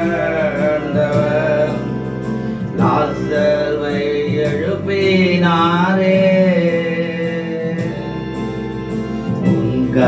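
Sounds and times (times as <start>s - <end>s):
instrumental accompaniment: 0.0s - 10.0s
person singing: 0.0s - 10.0s.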